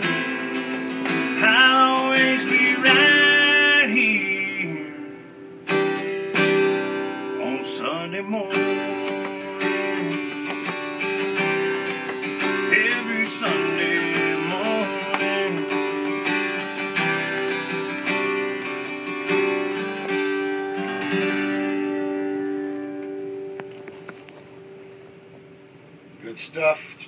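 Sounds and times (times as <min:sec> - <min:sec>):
acoustic guitar strumming: 0:00.0 - 0:26.2.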